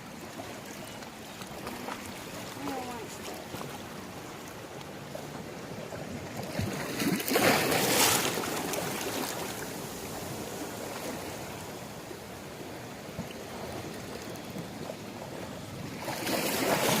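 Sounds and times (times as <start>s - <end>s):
sea waves washing on beach: 0.0s - 17.0s.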